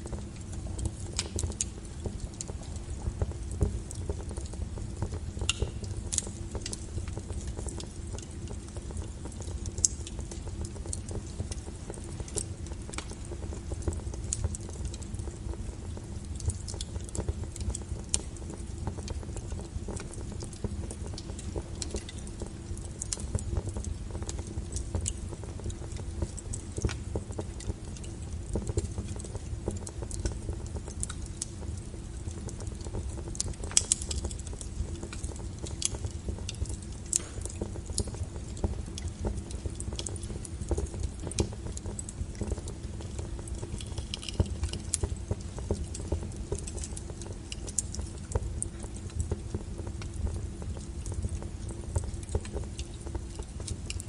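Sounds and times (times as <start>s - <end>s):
firewood crackling and popping: 0.0s - 54.0s
wood fire burning: 0.0s - 54.0s.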